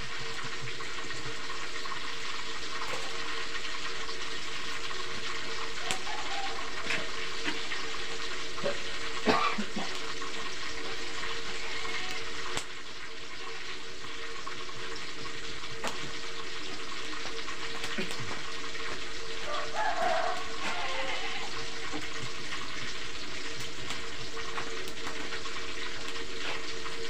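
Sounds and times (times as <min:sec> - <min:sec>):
oil popping: 0:00.0 - 0:27.0
tofu sizzling in oil: 0:00.0 - 0:27.0.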